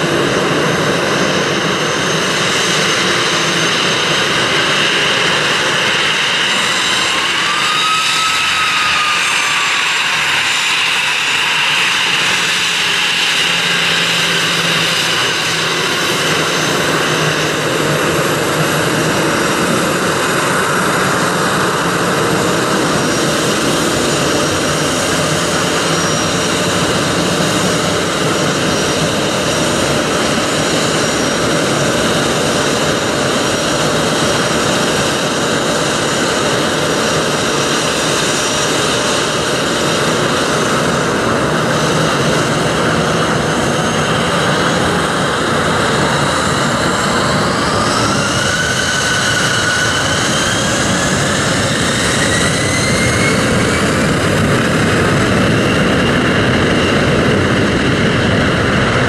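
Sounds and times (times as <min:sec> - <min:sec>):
falling engine whine: 0:00.0 - 0:59.0
jet engines running: 0:00.0 - 0:59.0.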